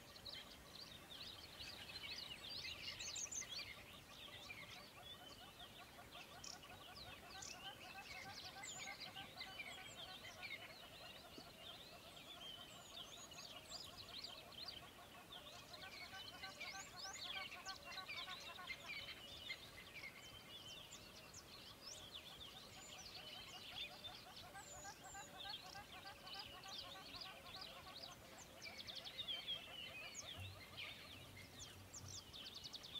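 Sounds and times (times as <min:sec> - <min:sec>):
birds chirping and twittering: 0:00.0 - 0:32.9.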